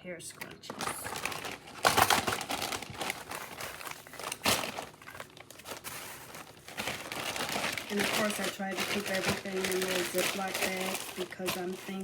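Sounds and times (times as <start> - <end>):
plastic bags crinkling: 0.2 - 12.0.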